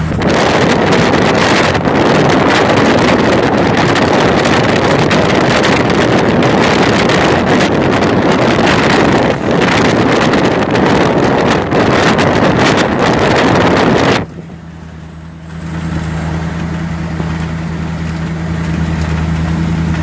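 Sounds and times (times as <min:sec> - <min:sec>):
vehicle road noise: 0:00.0 - 0:20.0
wind rush on microphone: 0:00.0 - 0:20.0.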